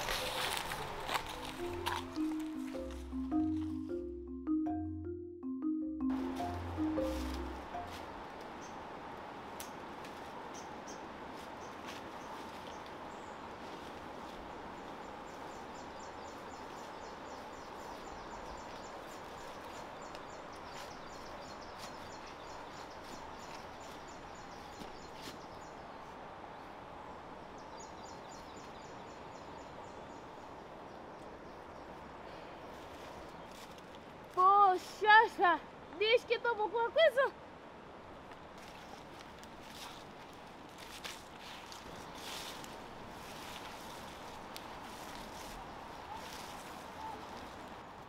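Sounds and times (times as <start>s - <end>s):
steady low forest hiss: 0.0s - 48.0s.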